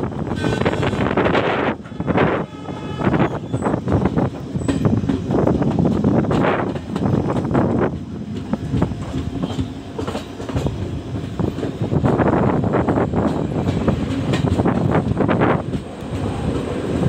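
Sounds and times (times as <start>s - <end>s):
clickety-clack over rail joints: 0.0s - 17.0s
train wheels rumbling on track: 0.0s - 17.0s.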